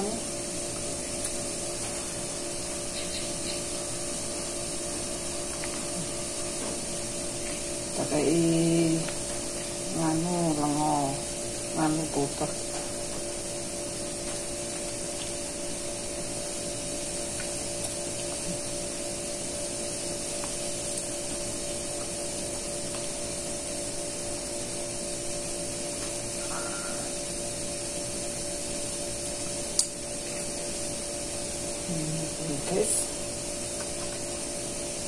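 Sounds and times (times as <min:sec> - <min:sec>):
mechanical hum: 0:00.0 - 0:35.0.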